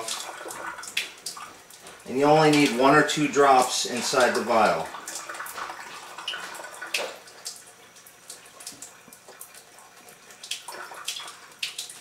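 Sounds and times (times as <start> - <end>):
water running into sink: 0.0 - 12.0.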